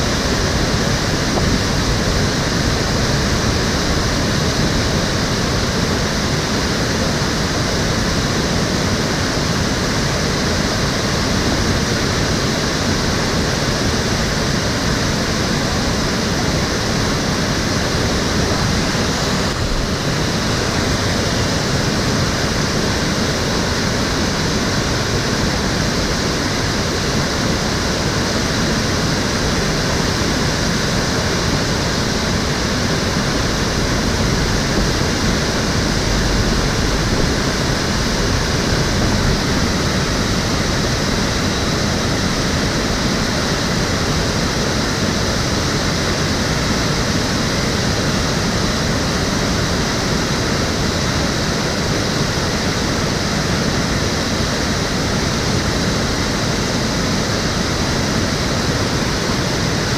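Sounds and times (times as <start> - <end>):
stream water flowing and splashing: 0.0 - 59.9.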